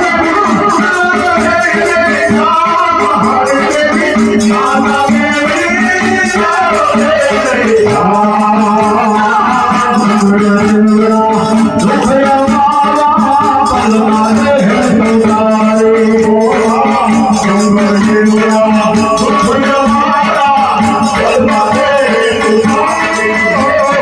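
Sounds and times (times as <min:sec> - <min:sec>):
man singing into a microphone: 0:00.0 - 0:24.0
rhythmic percussion: 0:00.0 - 0:24.0.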